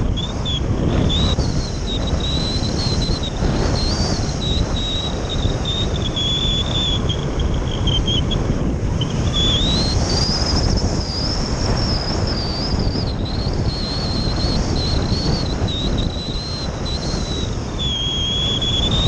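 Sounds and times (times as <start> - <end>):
thin high whistle: 0.0 - 19.0
wind buffeting microphone: 0.0 - 19.0.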